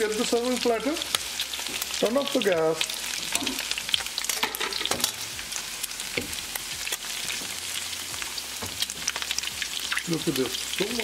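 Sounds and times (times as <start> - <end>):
ribs sizzling in frying pan: 0.0 - 11.0.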